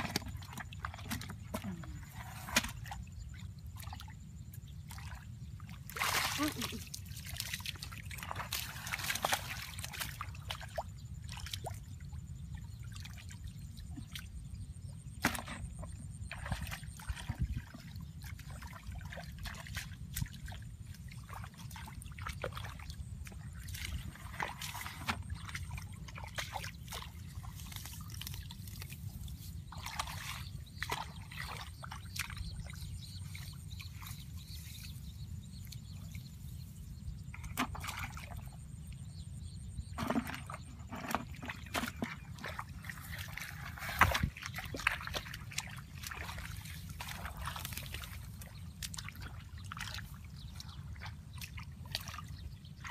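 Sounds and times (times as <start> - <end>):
small splashes and trickles: 0.0 - 36.2, 37.3 - 52.9
hands sloshing in muddy water: 0.0 - 39.0, 39.8 - 52.9.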